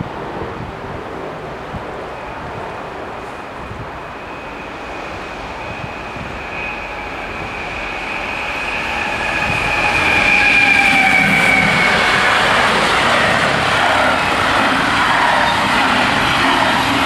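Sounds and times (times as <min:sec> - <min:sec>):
high whine from train wheels: 0:00.0 - 0:17.0
rumble of train wagons: 0:00.0 - 0:17.0.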